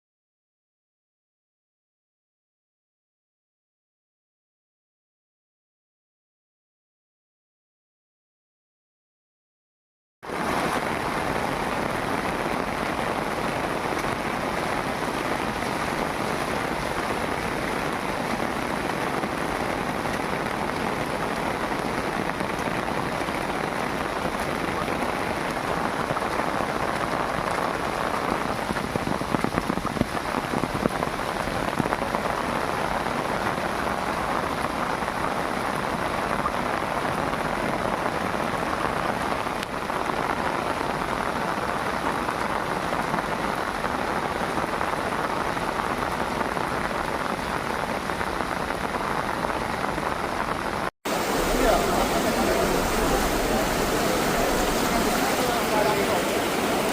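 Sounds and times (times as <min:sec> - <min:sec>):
heavy rain on hard surfaces: 0:10.2 - 0:56.9.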